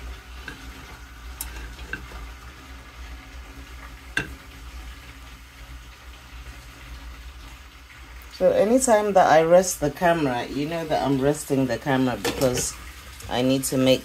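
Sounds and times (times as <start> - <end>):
water sizzling in hot pot: 0.0 - 14.0.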